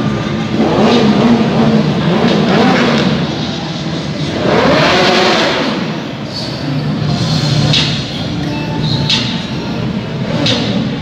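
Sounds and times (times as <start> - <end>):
crowd hubbub: 0.0 - 11.0
motorcycle engine revving: 0.0 - 11.0.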